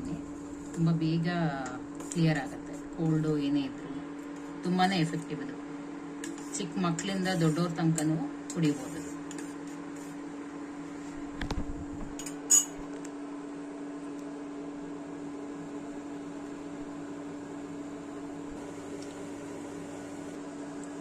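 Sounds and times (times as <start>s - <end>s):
cooktop fan hum: 0.0s - 21.0s.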